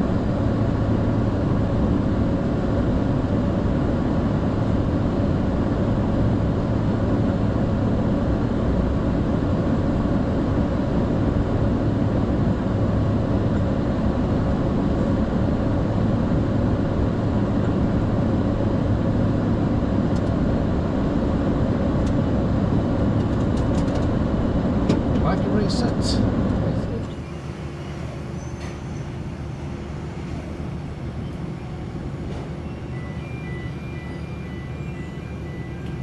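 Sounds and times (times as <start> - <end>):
aircraft engine and airflow noise: 0.0 - 36.0.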